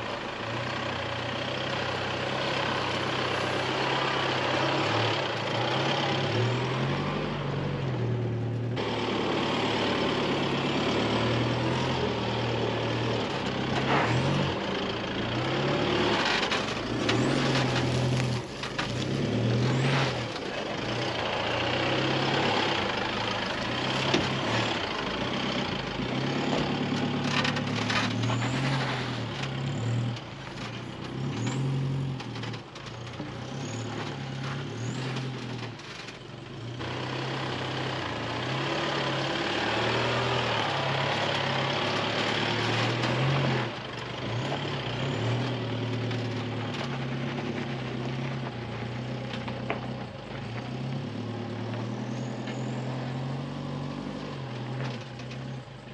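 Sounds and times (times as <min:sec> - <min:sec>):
vehicle engine running under load: 0:00.0 - 0:55.9.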